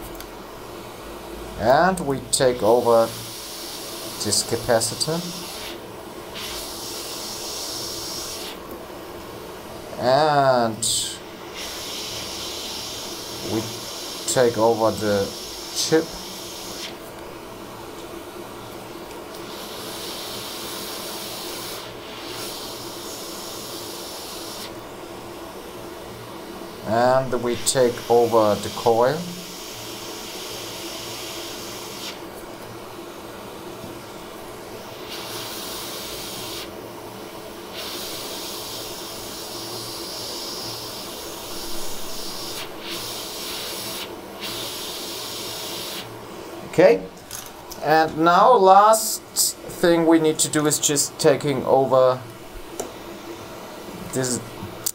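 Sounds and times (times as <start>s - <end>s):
faint steady hum: 0.0s - 54.9s
hot air blower hiss: 0.0s - 54.9s.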